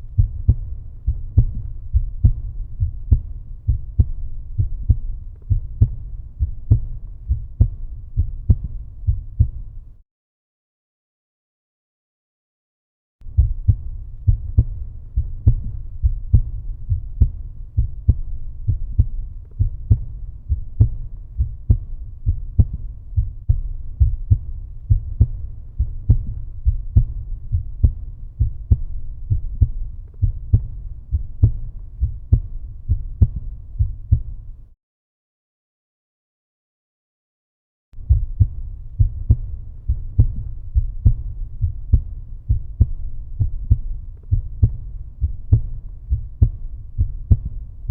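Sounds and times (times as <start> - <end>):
heartbeat thumps: 0.0 - 10.0, 13.2 - 34.6, 38.0 - 47.9.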